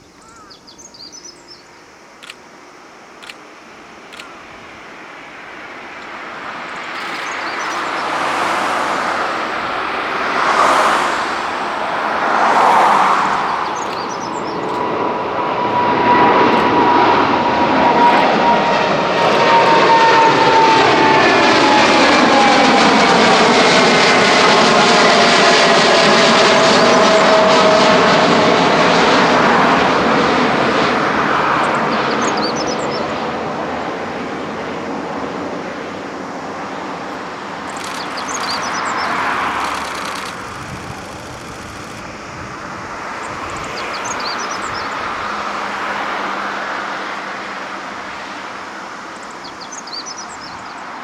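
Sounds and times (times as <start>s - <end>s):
jet engine roar: 1.8s - 51.0s.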